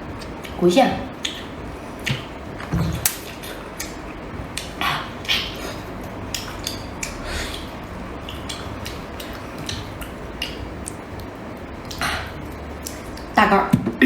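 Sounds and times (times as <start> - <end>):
steady low noise: 0.0 - 14.0.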